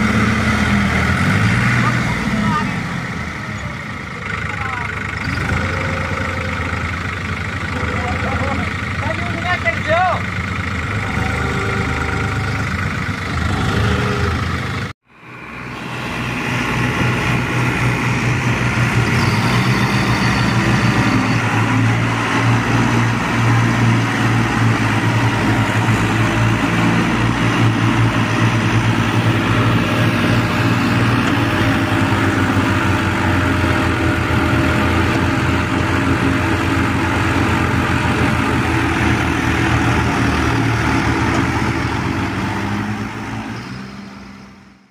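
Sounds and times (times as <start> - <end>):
tractor diesel engines running: 0.0 - 44.9.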